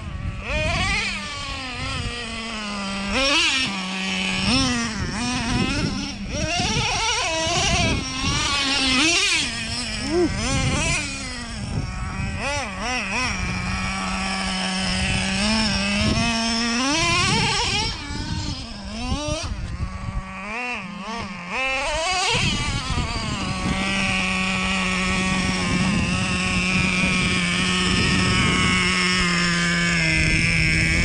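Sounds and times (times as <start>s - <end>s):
rc truck engine revving: 0.0s - 31.0s.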